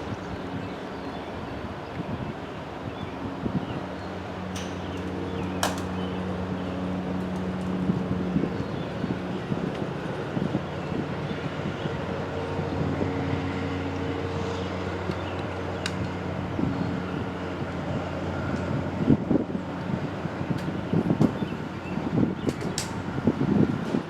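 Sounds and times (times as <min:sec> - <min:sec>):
engine idling hum: 0:00.0 - 0:24.0.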